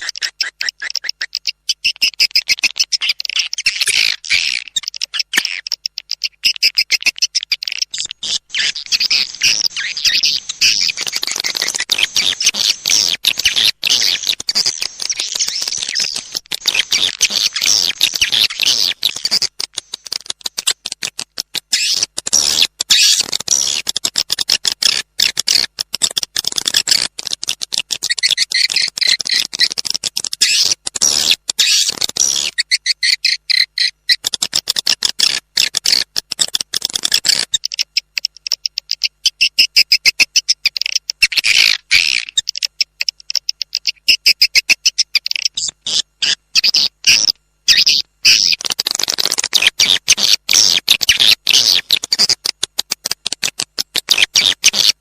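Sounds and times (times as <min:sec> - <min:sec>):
rapid high-pitched bird chirps: 0:00.0 - 0:55.0.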